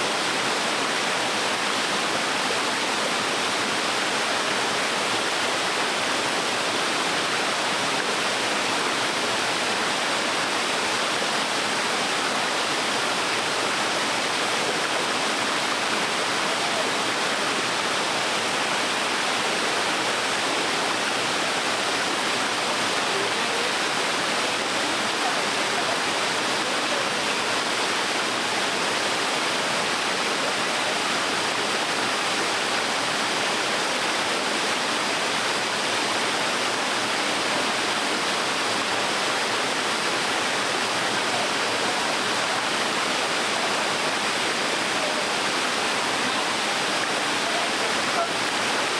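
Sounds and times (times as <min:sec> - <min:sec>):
small waterfall splashing: 0:00.0 - 0:48.9.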